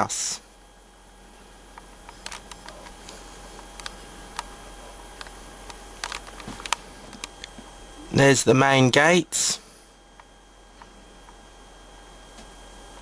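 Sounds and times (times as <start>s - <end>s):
faint camera hum: 0.0s - 13.0s.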